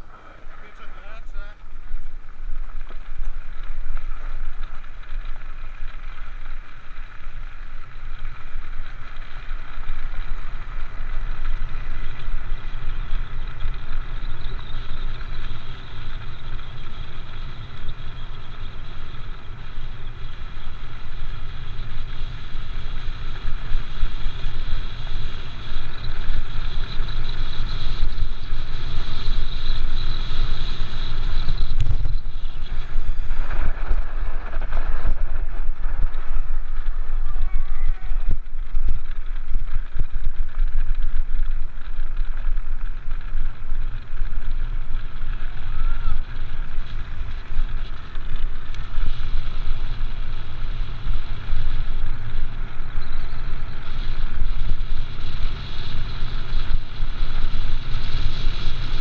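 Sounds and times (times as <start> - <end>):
cart wheels rumbling on gravel: 0.0 - 59.0
wind: 0.0 - 59.0.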